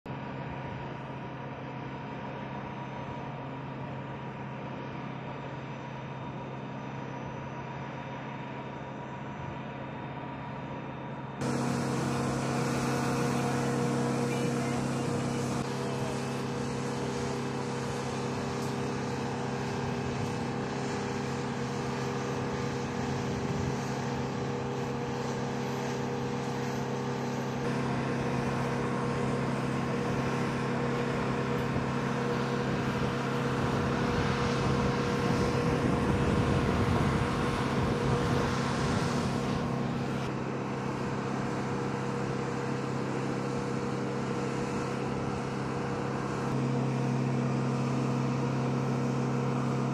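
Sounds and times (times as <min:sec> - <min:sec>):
machinery humming: 0:00.2 - 0:49.9.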